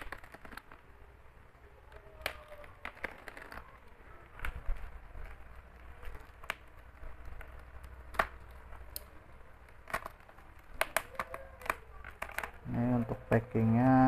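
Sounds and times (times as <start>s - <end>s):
plastic crackling and snapping: 0.0s - 14.0s.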